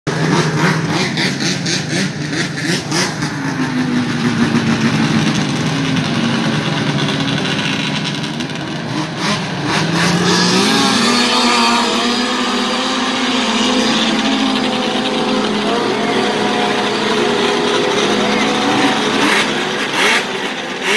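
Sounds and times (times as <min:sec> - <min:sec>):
snowmobile engines revving: 0:00.1 - 0:20.9.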